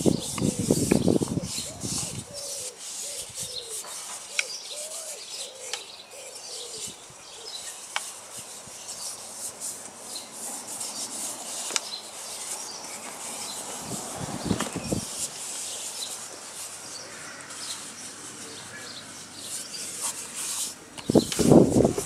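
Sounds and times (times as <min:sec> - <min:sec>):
fingers rubbing oiled wood: 0:00.0 - 0:05.8, 0:07.7 - 0:18.5, 0:19.4 - 0:22.0
repeated low bird calls: 0:00.0 - 0:21.9
birds calling: 0:00.0 - 0:22.0.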